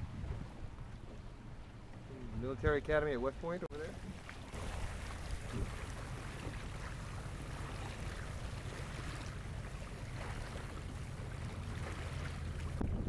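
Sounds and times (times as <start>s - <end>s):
wind rumble on microphone: 0.0s - 3.0s, 4.0s - 13.0s
water splashing along boat hull: 0.0s - 13.0s.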